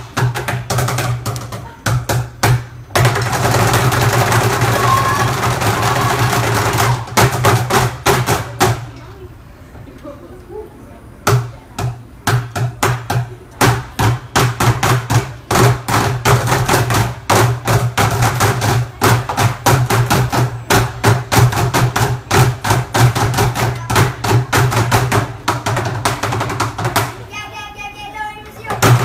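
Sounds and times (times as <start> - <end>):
group of drummers drumming: 0.0 - 8.9, 11.3 - 27.2, 28.7 - 29.0.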